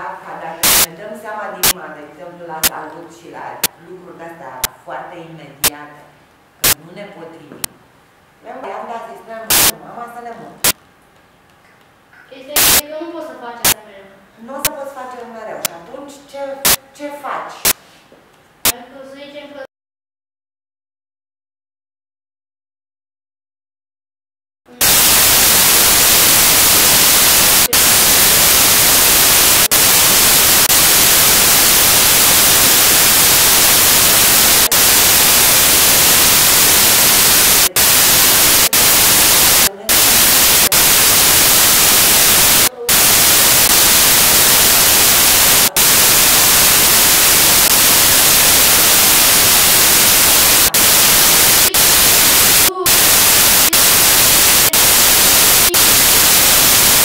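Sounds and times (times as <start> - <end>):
loud static hiss: 0.0 - 19.0, 24.7 - 57.0.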